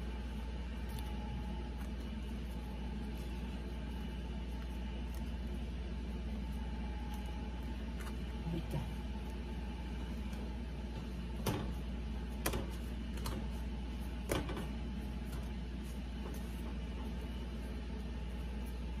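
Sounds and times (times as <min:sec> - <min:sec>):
dough set on metal griddle: 0:00.0 - 0:19.0
kitchen hum: 0:00.0 - 0:19.0.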